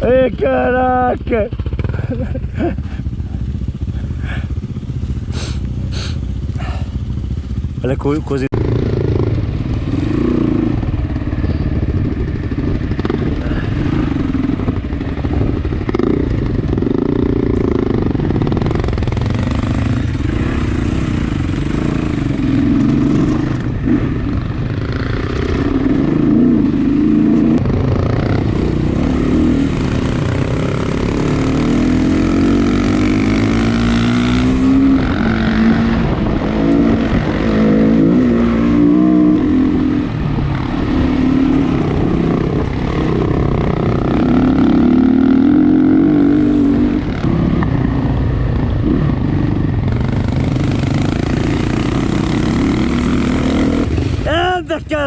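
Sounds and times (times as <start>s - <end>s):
dirt bike engine revving: 0.0s - 54.5s.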